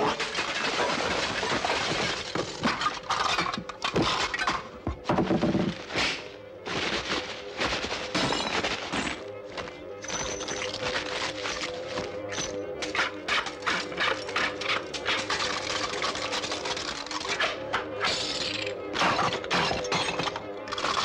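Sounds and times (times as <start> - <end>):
clatter of crunching objects: 0.0 - 21.0.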